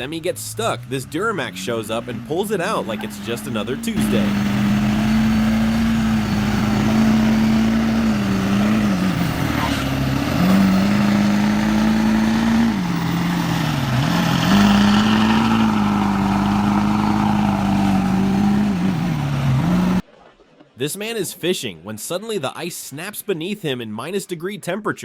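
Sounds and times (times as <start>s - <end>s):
diesel engine revving hard: 0.0s - 20.0s.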